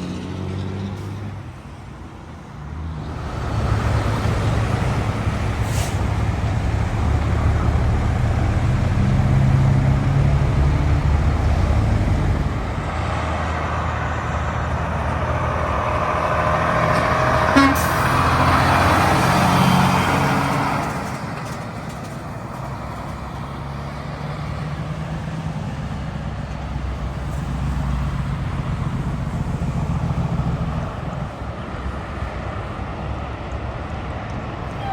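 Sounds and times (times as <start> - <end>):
truck engines passing: 0.0 - 34.9
vehicle passing close: 2.7 - 31.2.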